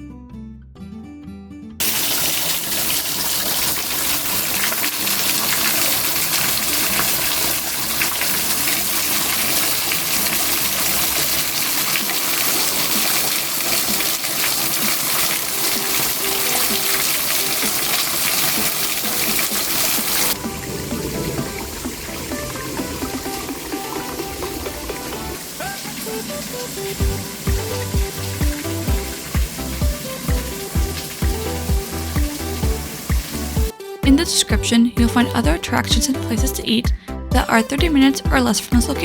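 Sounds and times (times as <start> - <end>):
acoustic guitar music: 0.0 - 39.0
rush of flowing water: 1.8 - 33.7.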